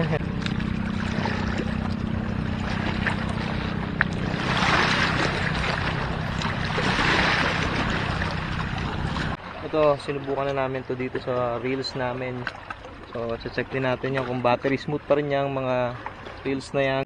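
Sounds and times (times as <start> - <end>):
boat motor running: 0.0 - 17.0
wind and water rushing: 0.0 - 17.0.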